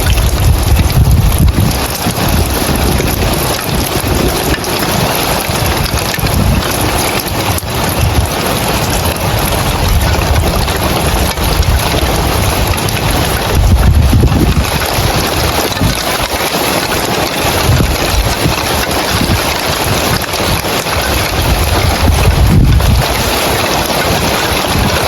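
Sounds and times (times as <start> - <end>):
rain falling on roof tiles: 0.0 - 25.0
wind on microphone: 0.0 - 25.0.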